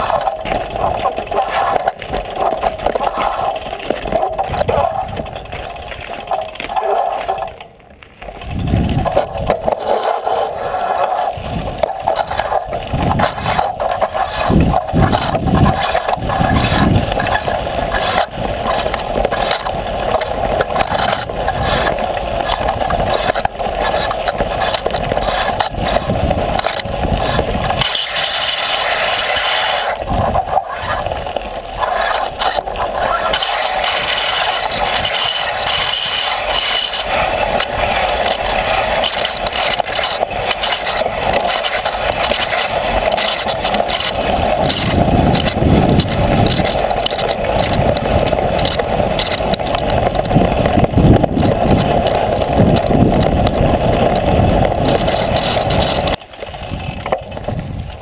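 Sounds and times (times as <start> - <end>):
bicycle tyres crunching on gravel: 0.0 - 58.0
bike frame rattling: 0.0 - 58.0.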